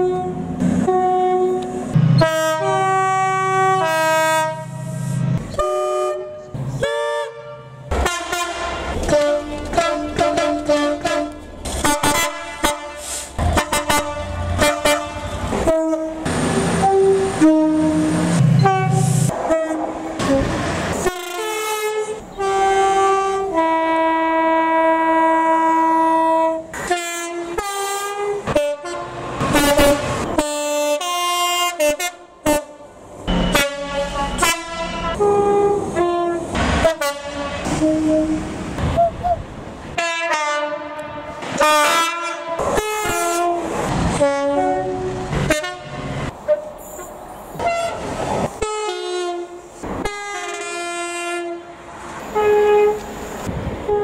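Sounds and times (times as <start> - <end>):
locomotive two-tone air horns: 0.0 - 39.4, 40.0 - 54.0.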